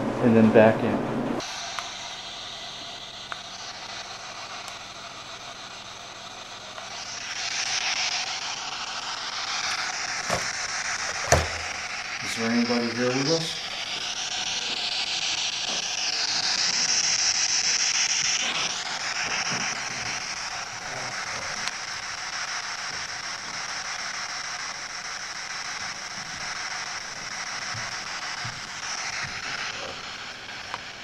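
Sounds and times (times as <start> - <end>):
electronic device static hiss: 0.2 - 31.0.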